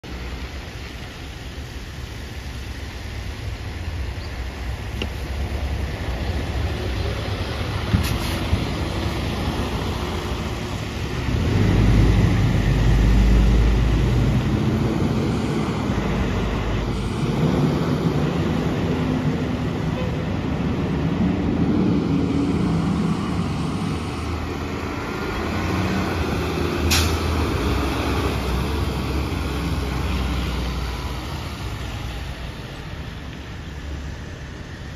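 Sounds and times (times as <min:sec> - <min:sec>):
fire engine driving past: 0:00.0 - 0:34.9
traffic on wet pavement: 0:00.0 - 0:34.9
truck engine rumbling past: 0:00.1 - 0:34.9.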